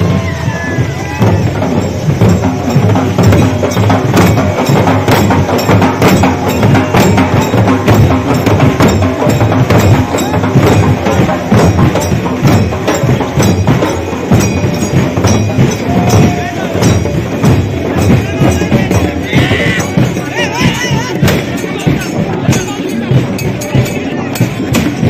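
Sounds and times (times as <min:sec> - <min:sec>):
fast traditional drumming: 0:00.0 - 0:25.0.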